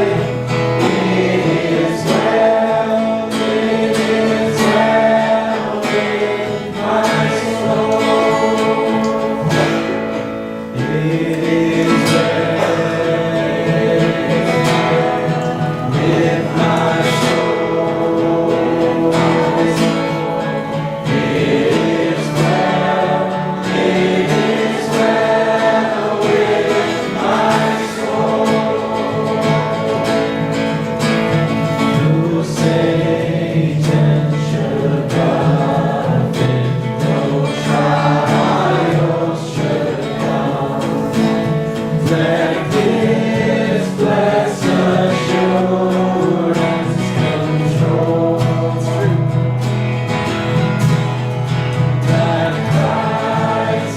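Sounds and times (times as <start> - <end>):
group of voices singing: 0.0 - 53.9
guitar and band accompaniment: 0.0 - 53.9.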